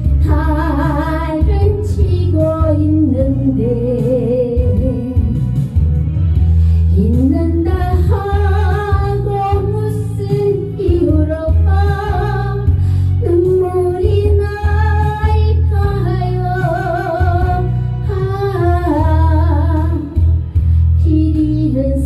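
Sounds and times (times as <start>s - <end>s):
ballad backing track with bass: 0.0s - 22.0s
woman singing with vibrato: 0.2s - 5.4s, 7.0s - 20.4s.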